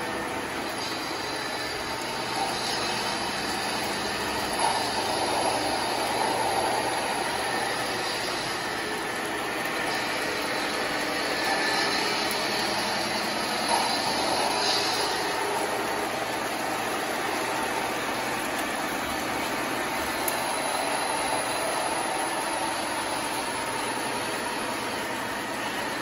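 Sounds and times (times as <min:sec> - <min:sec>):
model train hiss and rumble: 0:00.0 - 0:26.0.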